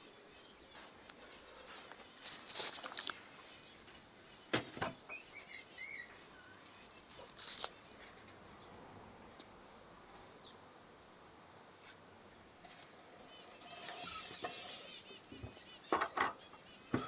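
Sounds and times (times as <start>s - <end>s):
birds chirping: 0.0s - 8.8s, 9.4s - 10.6s, 13.0s - 17.0s.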